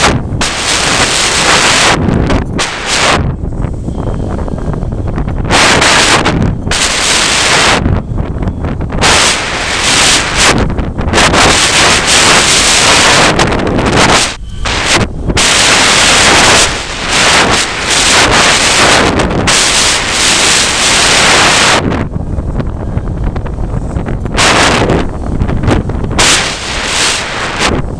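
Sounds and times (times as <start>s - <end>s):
gusty wind buffeting microphone: 0.0s - 27.9s.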